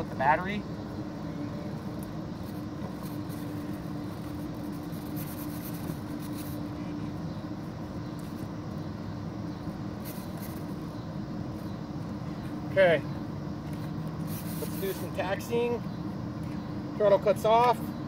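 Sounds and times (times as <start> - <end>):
faint steady hum: 0.0 - 18.0
outdoor rumble and hiss: 0.0 - 18.0.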